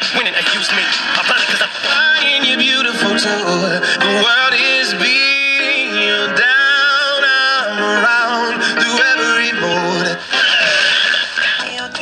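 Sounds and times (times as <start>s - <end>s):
song with singer on radio: 0.0s - 12.0s.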